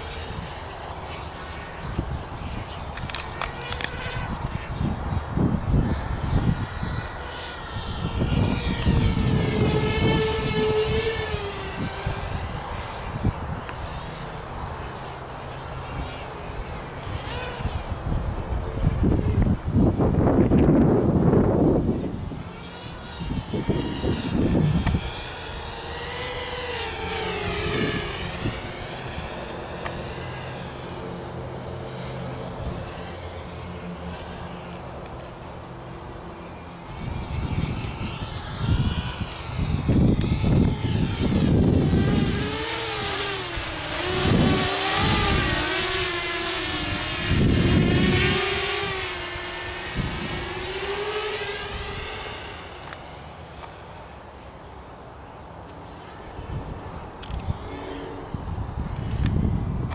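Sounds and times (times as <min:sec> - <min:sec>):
wind noise on microphone: 0:00.0 - 0:14.9, 0:15.7 - 0:34.5, 0:36.1 - 0:53.8, 0:56.2 - 0:59.9
quadcopter propellers whining: 0:00.0 - 0:59.9.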